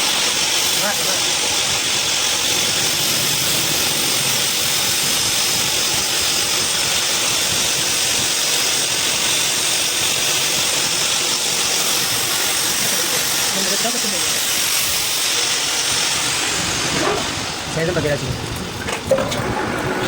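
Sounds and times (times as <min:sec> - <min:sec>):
workshop machinery hissing: 0:00.0 - 0:20.0.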